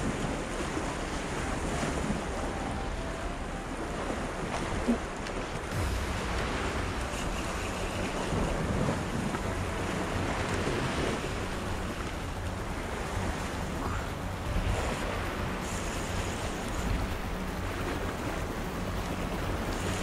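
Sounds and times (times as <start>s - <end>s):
wind on microphone: 0.0s - 20.0s
surf washing against rocks: 3.9s - 20.0s.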